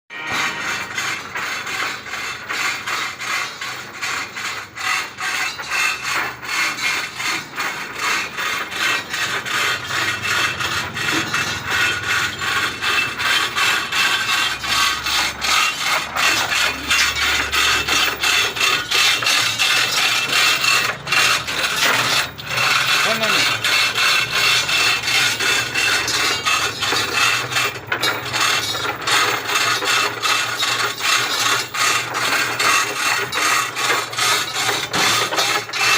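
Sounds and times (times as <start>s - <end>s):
generator rattling: 0.4s - 35.9s.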